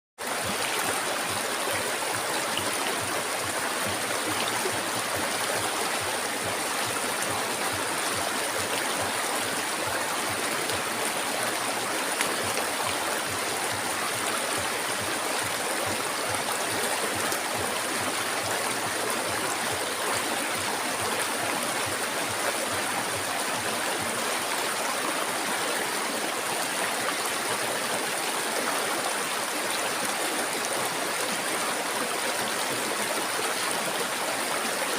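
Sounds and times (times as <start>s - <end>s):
river flowing over rocks: 0.2s - 34.9s.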